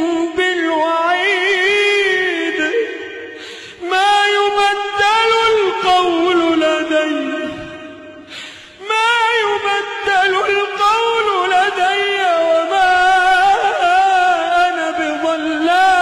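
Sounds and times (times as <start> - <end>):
wordless singing voice: 0.0 - 16.0.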